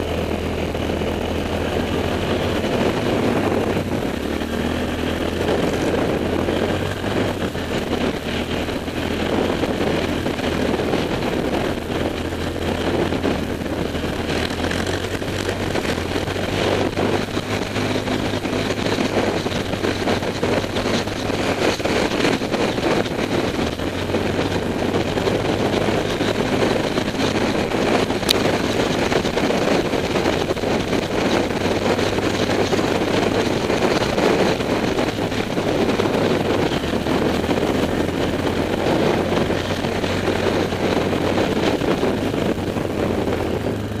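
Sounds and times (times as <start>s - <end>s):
quad engine humming: 0.0s - 44.0s
wind on microphone: 0.0s - 44.0s.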